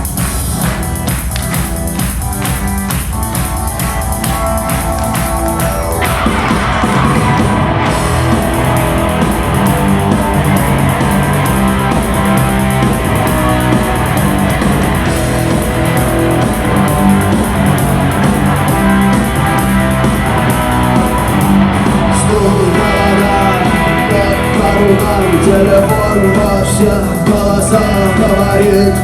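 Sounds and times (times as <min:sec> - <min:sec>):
bass guitar: 0:00.0 - 0:29.0
drum kit: 0:00.0 - 0:29.0
electric guitar: 0:00.0 - 0:29.0.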